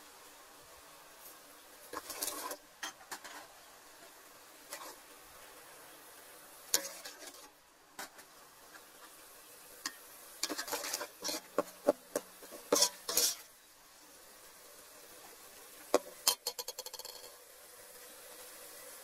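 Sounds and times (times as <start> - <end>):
faint simmering hiss: 0.0 - 19.0.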